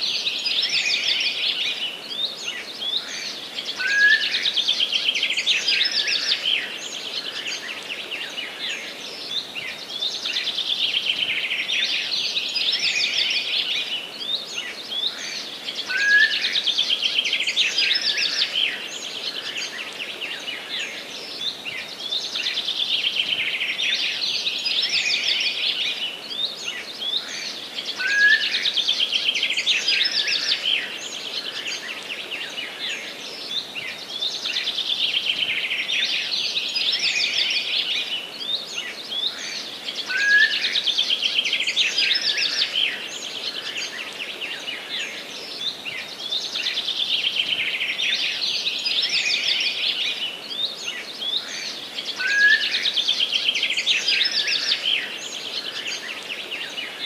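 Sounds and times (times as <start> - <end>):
forest ambience hiss: 0.0 - 57.0
songbird trilling song: 0.0 - 57.0.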